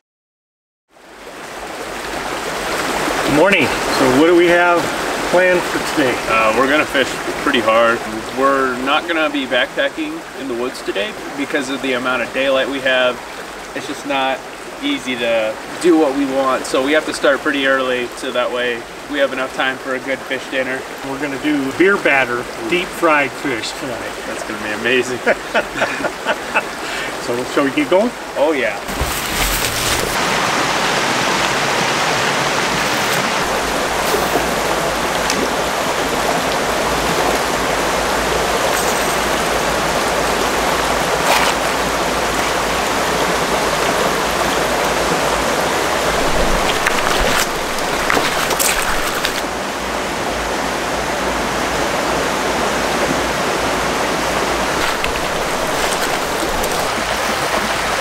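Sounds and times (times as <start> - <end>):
creek water running over rocks: 0.9 - 58.0.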